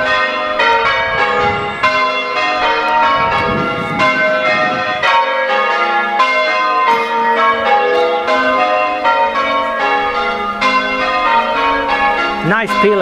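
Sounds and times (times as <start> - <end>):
church bells change ringing: 0.0 - 13.0.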